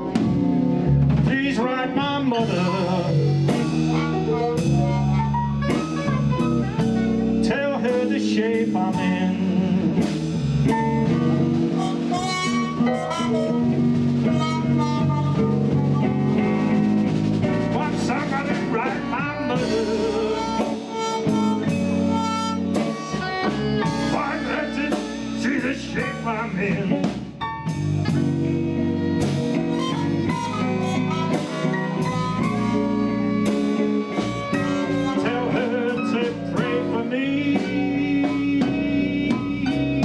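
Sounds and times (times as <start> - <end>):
blues band playing: 0.0 - 40.0
trumpet and trombone notes: 1.7 - 9.5, 10.7 - 26.5, 28.0 - 39.4.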